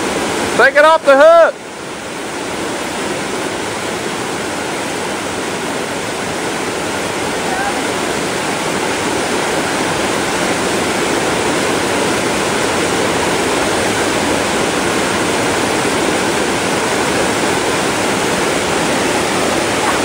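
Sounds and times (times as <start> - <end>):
fast-flowing creek water rushing: 0.0 - 20.0.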